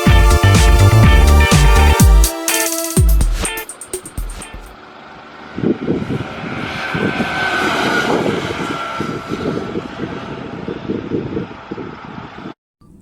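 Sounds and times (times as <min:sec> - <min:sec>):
engine running with low pulsing: 0:00.0 - 0:02.2, 0:03.2 - 0:12.5.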